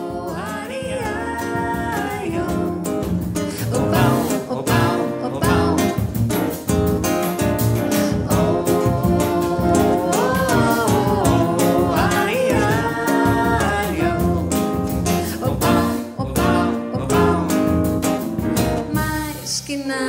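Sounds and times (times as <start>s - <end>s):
woman singing: 0.0s - 6.0s, 8.0s - 18.2s, 18.8s - 20.0s
hand-played drum kit: 0.0s - 19.4s
acoustic guitar: 0.0s - 20.0s
double bass: 0.0s - 20.0s
piano: 0.0s - 20.0s.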